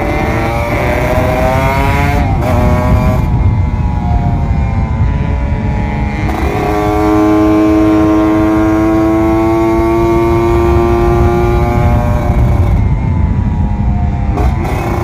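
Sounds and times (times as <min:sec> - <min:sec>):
gear change: 0:00.0 - 0:15.0
low wind rumble: 0:00.0 - 0:15.0
motorcycle engine running: 0:00.0 - 0:15.0.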